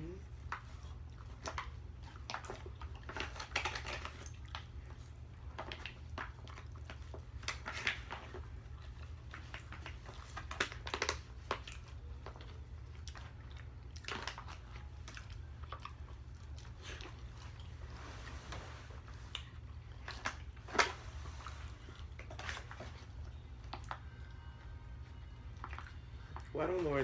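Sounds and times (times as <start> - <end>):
chewing with mouth smacks: 0.1 - 18.2, 19.0 - 26.8.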